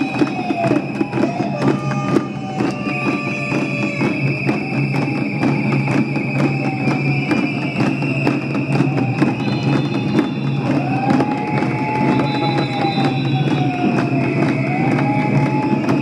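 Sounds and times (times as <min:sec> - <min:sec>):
frame drums beating: 0:00.0 - 0:16.0.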